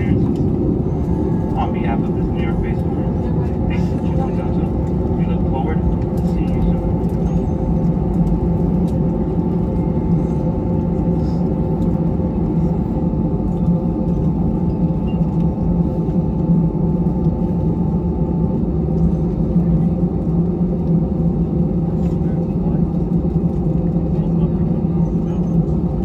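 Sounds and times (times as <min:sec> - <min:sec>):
aircraft cabin low rumble: 0:00.0 - 0:26.0.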